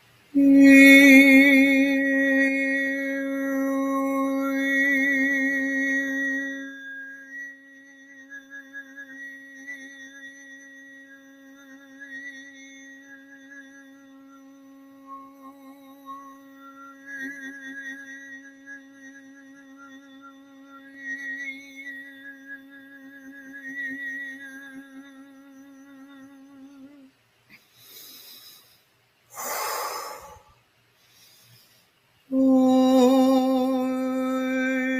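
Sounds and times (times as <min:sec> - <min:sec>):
woman humming one steady pitch: 0:00.0 - 0:27.2, 0:29.3 - 0:30.6, 0:32.3 - 0:34.9.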